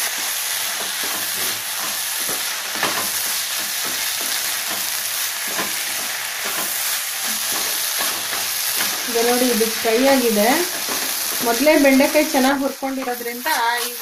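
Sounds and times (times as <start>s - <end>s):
spatula stirring and scraping: 0.0s - 14.0s
vegetables sizzling in a pan: 0.0s - 14.0s.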